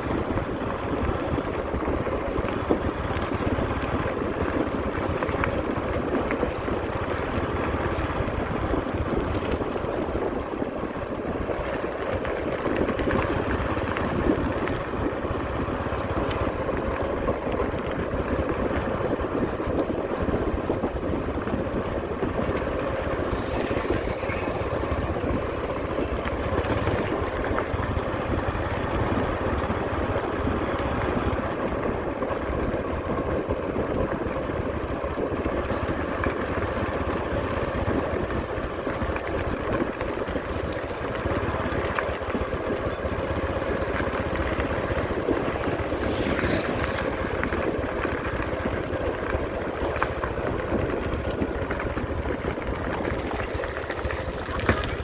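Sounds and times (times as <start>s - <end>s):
diesel engines of paving machinery: 0.0s - 55.0s.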